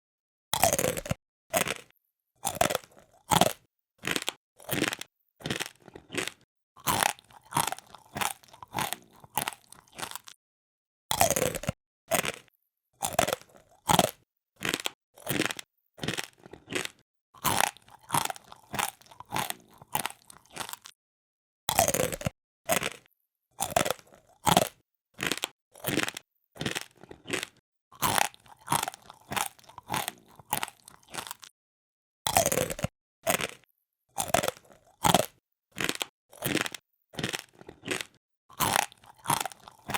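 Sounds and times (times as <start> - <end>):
crunchy chewing of crisp snack: 0.6 - 10.4, 11.1 - 21.0, 21.7 - 31.6, 32.3 - 39.9.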